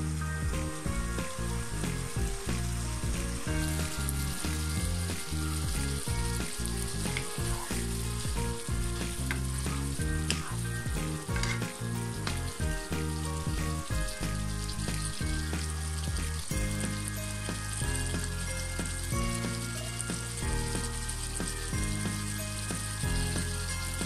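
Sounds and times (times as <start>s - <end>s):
background music with low notes: 0.0s - 24.0s
gravy bubbling and sizzling: 0.0s - 24.0s
spatula scraping a wok: 0.2s - 24.0s.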